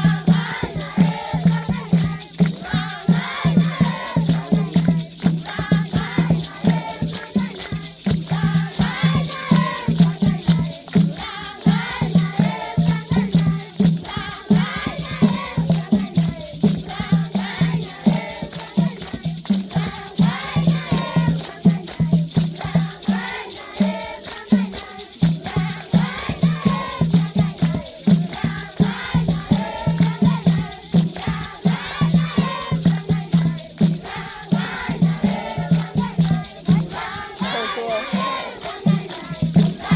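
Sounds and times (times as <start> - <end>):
children singing together: 0.0 - 39.9
rattles shaken rapidly: 0.0 - 39.9.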